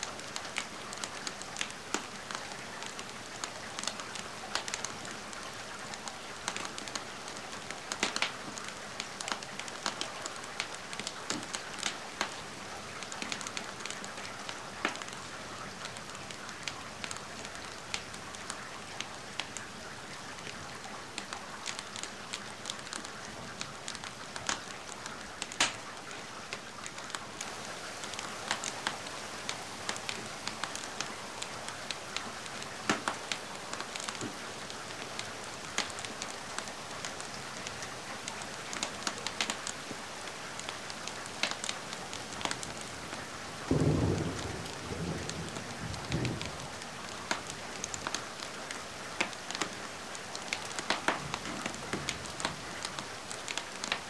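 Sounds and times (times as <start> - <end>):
steady rain hiss: 0.0 - 54.0
wood fire crackling and popping: 0.2 - 12.4, 14.8 - 15.2, 21.2 - 42.9, 43.7 - 48.5, 49.2 - 54.0.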